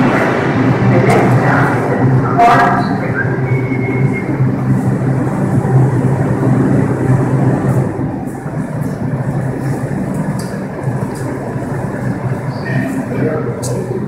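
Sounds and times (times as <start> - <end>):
platform noise: 0.0 - 14.0
subway train humming: 0.0 - 14.0.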